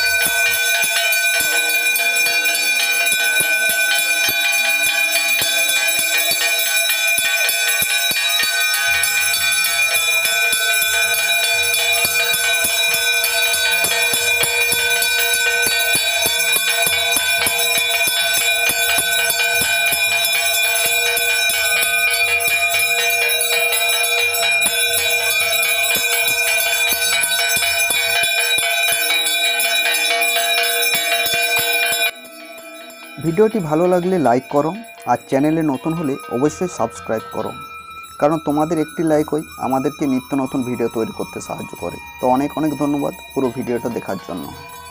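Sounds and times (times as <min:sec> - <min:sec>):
brass temple bell ringing: 0:00.0 - 0:44.9
low rhythmic pulse: 0:00.0 - 0:44.9.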